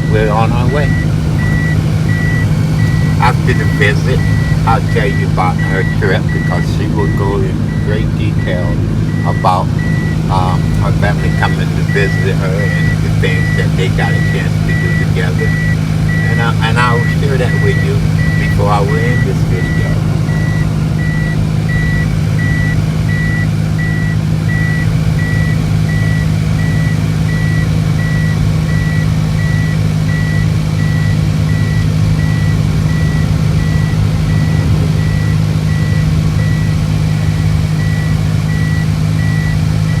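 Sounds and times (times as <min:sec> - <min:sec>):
car cabin hum: 0:00.0 - 0:40.0
high electronic beeps: 0:00.0 - 0:40.0.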